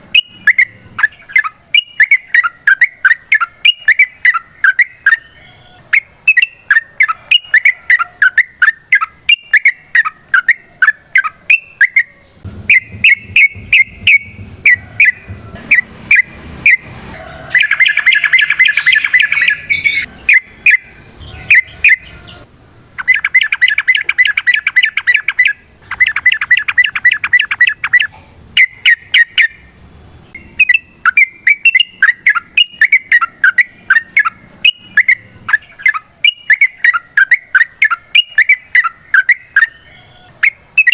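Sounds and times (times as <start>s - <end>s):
bird chirping: 0.0s - 40.9s
bird fast trills: 0.0s - 40.9s.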